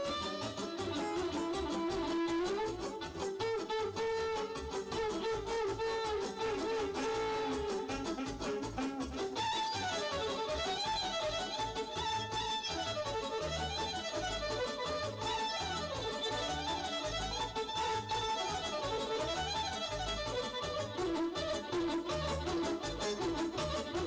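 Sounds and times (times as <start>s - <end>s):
live band playing dance tune: 0.0s - 24.0s.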